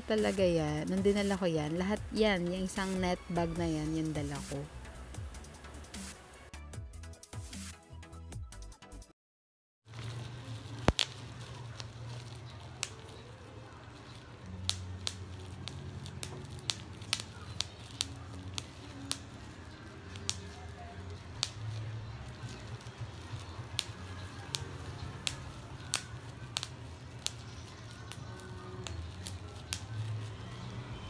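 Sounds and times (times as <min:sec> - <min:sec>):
bubble wrap crinkling: 0:00.0 - 0:05.9, 0:09.9 - 0:31.0.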